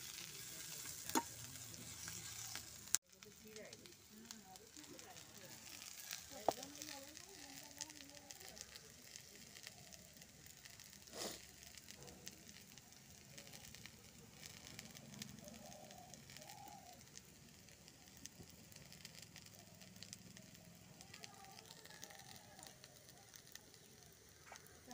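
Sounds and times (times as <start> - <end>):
vegetables sizzling in a pan: 0.0 - 24.9.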